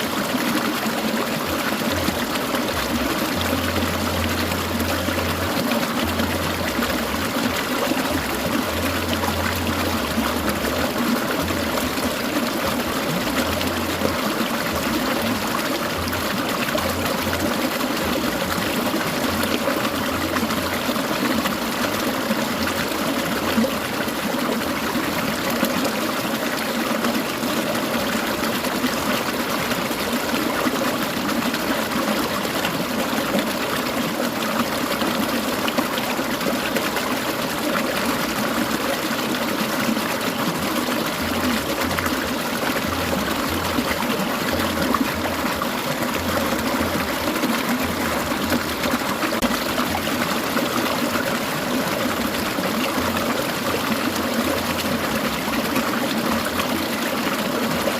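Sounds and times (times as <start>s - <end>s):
stream babbling over stones: 0.0s - 57.9s.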